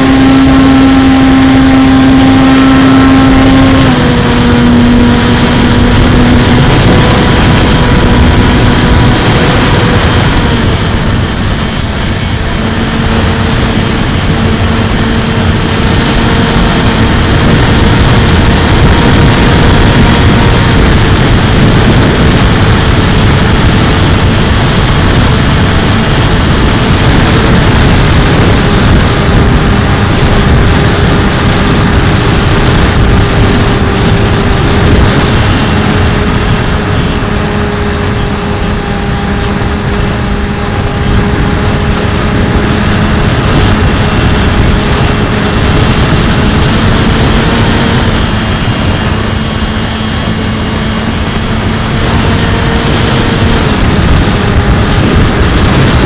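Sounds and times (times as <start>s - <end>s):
electric motor and propeller whining: 0.0s - 56.0s
wind rumble on microphone: 0.0s - 56.0s.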